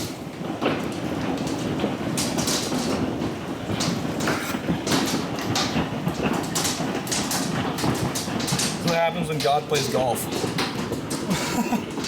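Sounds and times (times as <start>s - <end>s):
hailstones clattering: 0.0s - 12.0s.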